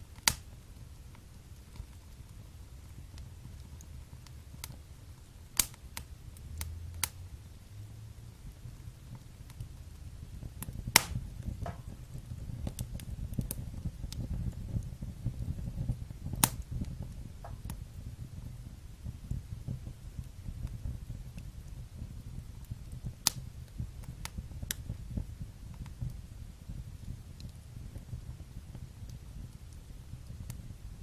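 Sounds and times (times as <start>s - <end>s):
fire crackling pops: 0.0s - 31.0s
wood fire rumbling: 0.0s - 31.0s.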